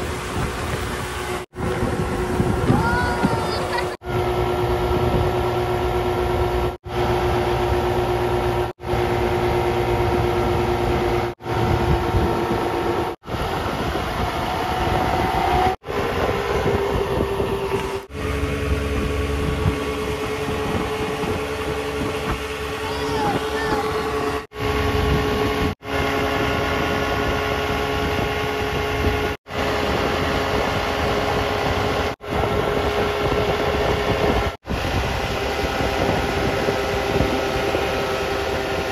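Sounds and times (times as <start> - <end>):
outboard motor running: 0.0 - 38.9
wind: 0.0 - 38.9.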